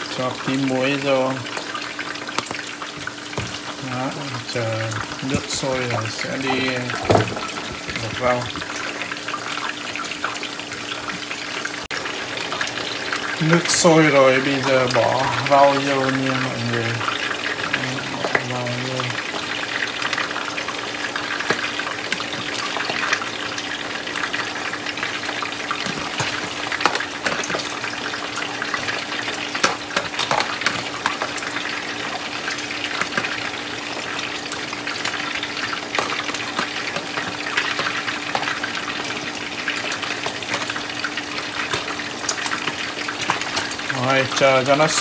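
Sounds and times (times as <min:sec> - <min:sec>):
fish sizzling in hot oil: 0:00.0 - 0:45.0.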